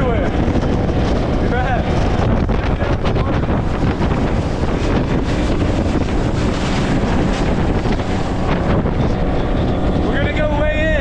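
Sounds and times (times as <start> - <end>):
rushing water from boat: 0.0 - 11.0
wind noise on microphone: 0.0 - 11.0.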